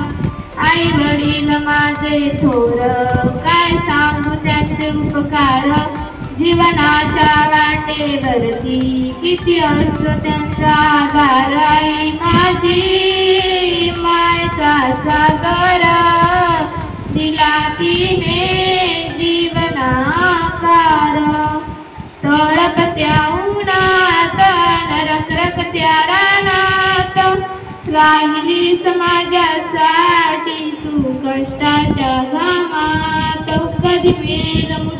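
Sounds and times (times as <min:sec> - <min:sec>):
girl singing into microphone: 0:00.0 - 0:34.9.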